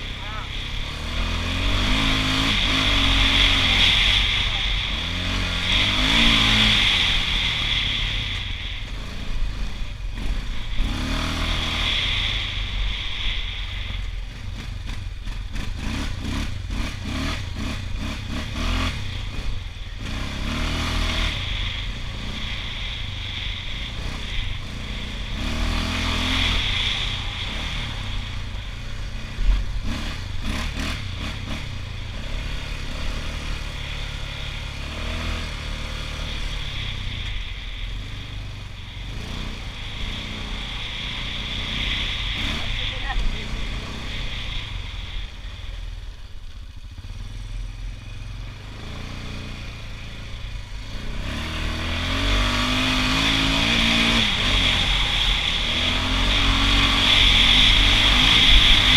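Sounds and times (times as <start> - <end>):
atv engine revving: 0.0 - 58.9.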